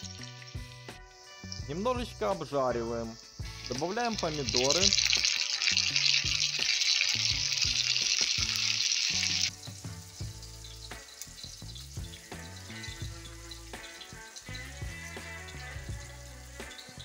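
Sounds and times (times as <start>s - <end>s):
background music: 0.0s - 17.0s
food sizzling in a frying pan: 0.0s - 17.0s.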